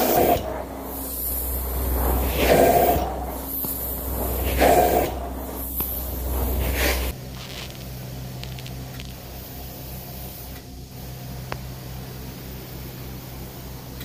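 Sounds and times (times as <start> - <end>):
surging whooshing hiss: 0.0 - 13.8
low machine hum: 0.0 - 14.0.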